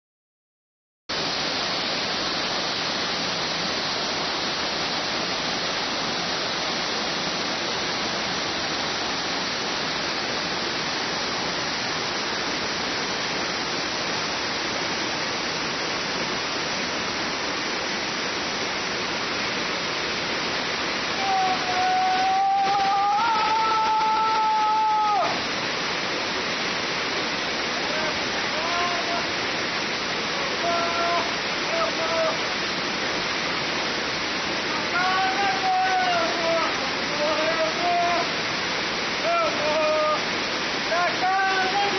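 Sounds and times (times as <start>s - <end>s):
waterfall rushing: 1.1s - 41.9s.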